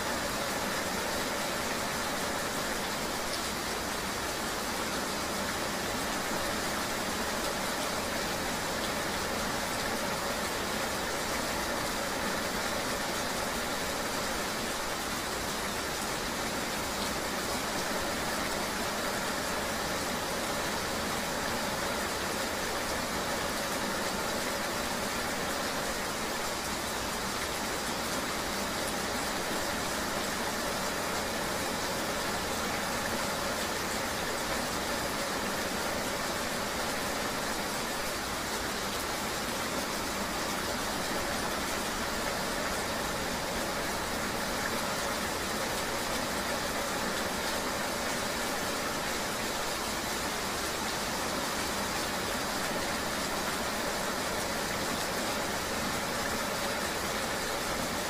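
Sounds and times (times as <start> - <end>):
rain: 0.0 - 58.0.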